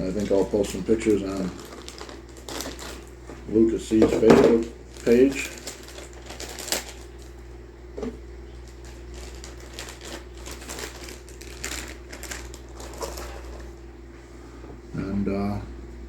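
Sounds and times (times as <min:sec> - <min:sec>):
packaging rustling: 0:00.0 - 0:03.2, 0:03.8 - 0:13.8
faint steady hum: 0:00.0 - 0:16.0.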